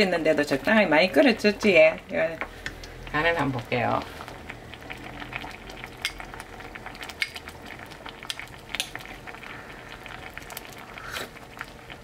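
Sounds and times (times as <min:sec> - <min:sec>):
soup bubbling in a pot: 0:00.0 - 0:12.0.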